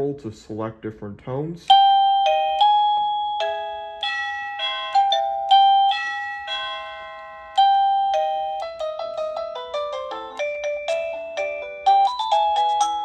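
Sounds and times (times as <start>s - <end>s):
electronic doorbell chime: 1.7s - 13.0s.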